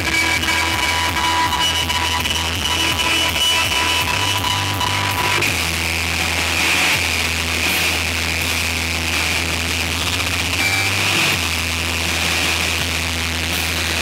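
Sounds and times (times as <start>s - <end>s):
distorted electric guitar: 0.0s - 14.0s
rock band playing: 0.0s - 14.0s.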